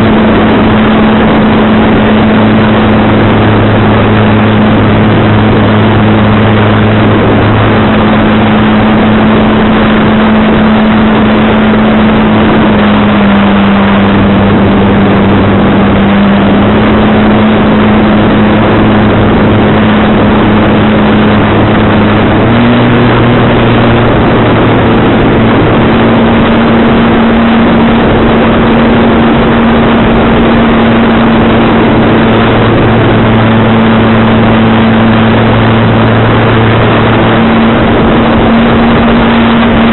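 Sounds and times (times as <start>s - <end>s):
model aircraft motor droning: 0.0s - 39.9s
wind on microphone: 0.0s - 39.9s.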